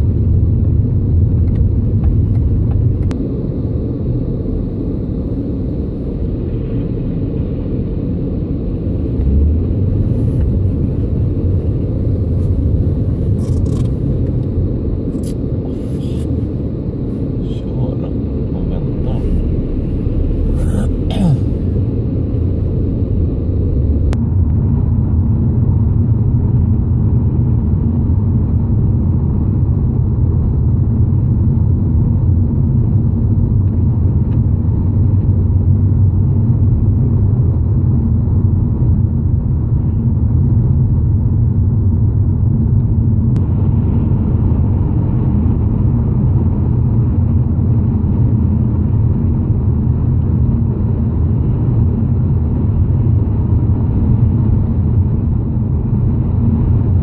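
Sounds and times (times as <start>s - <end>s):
car cabin tyre and engine rumble: 0.0s - 24.3s, 29.6s - 57.0s.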